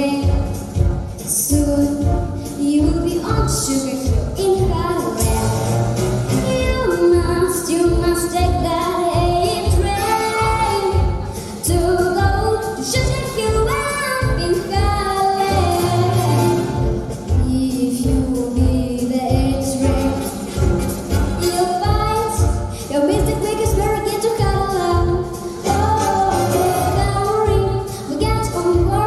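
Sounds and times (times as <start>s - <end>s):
band accompaniment: 0.0s - 29.0s
woman singing swing jazz: 0.0s - 29.0s.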